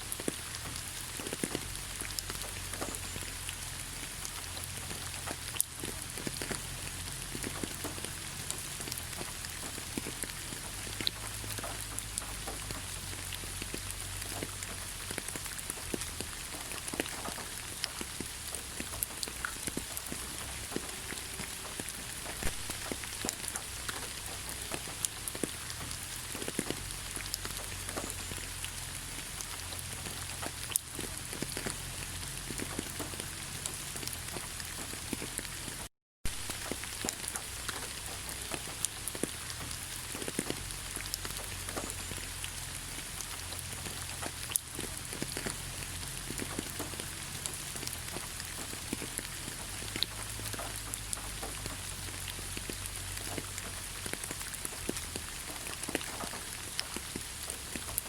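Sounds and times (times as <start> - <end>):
rain hiss: 0.0 - 58.0
raindrops ticking: 0.0 - 58.0.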